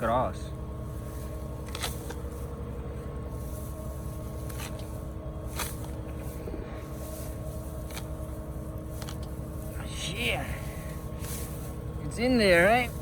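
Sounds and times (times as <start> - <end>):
combine harvester rumbling: 0.0 - 13.0
grass crackling: 0.0 - 13.0.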